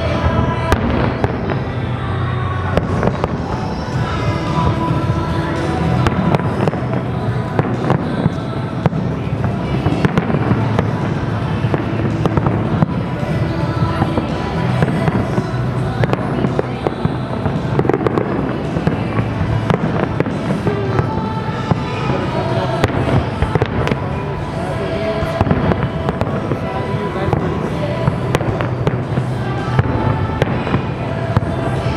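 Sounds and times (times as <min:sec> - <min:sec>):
fireworks bursting and crackling: 0:00.0 - 0:31.9
music playing: 0:00.0 - 0:31.9.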